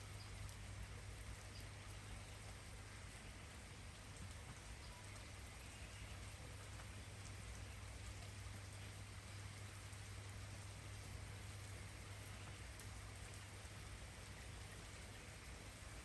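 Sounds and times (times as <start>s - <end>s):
faint rainfall: 0.0s - 16.0s.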